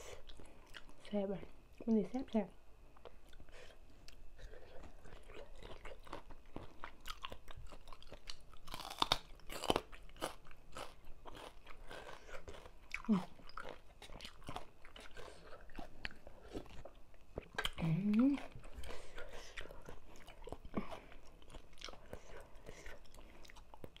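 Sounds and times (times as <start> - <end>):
crunching and chewing food: 0.0 - 24.0.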